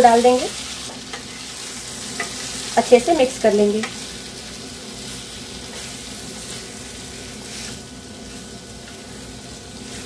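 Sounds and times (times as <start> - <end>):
frying hiss: 0.0 - 10.0.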